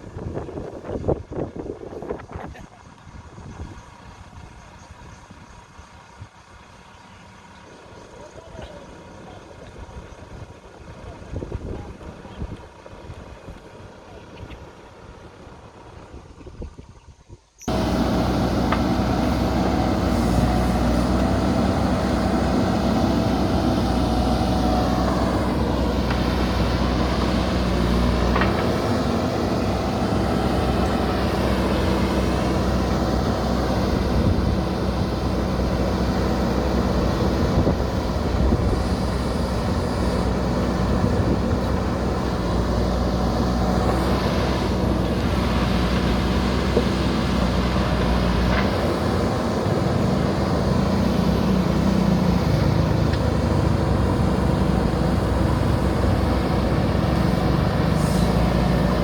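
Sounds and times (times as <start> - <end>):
diesel engine running: 0.0 - 16.4, 17.6 - 59.0
wind: 0.0 - 59.0.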